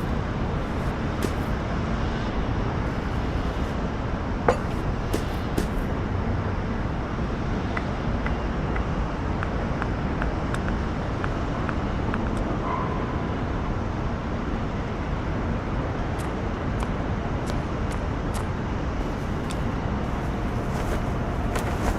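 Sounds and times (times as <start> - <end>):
continuous low outdoor noise: 0.0 - 21.9.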